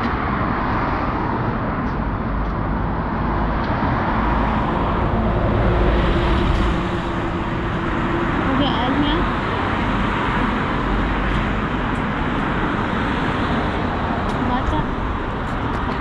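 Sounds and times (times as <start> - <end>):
bus engine hum: 0.0 - 16.0
rumble of passing cars: 0.0 - 16.0.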